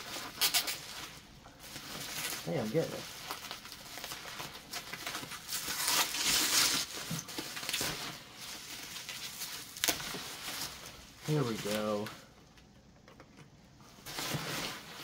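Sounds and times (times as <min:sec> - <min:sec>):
bubble wrap crinkling: 0:00.0 - 0:12.6, 0:13.9 - 0:15.0.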